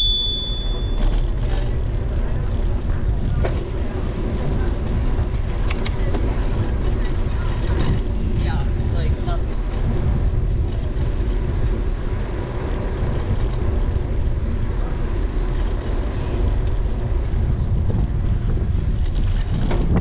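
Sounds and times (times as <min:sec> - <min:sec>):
wind rumble: 0:00.0 - 0:20.0.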